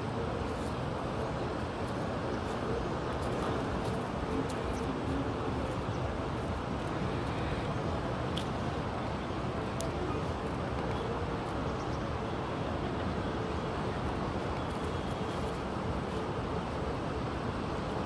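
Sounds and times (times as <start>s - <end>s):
low outdoor background noise: 0.0s - 18.0s.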